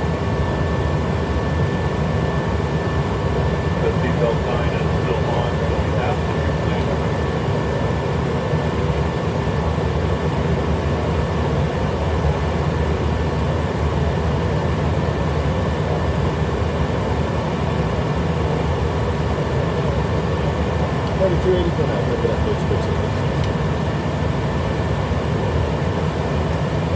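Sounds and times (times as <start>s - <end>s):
jet cabin airflow and engine rumble: 0.0s - 26.9s.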